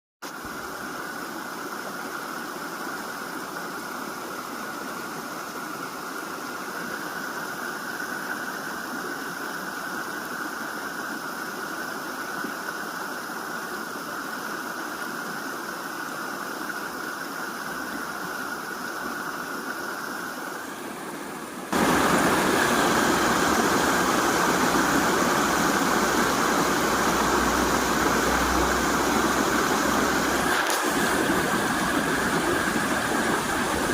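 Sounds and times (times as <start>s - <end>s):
river water rushing: 0.3s - 33.9s.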